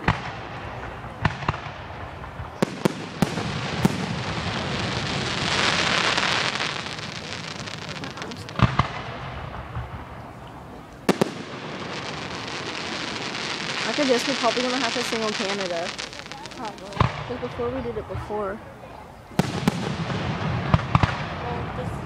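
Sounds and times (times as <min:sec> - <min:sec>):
fireworks hissing: 0:00.0 - 0:18.6, 0:19.2 - 0:22.0
fireworks bangs: 0:00.0 - 0:22.0.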